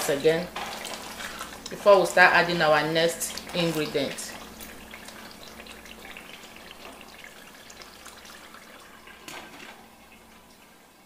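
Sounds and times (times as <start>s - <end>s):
stew frying in a pot: 0.0s - 11.0s.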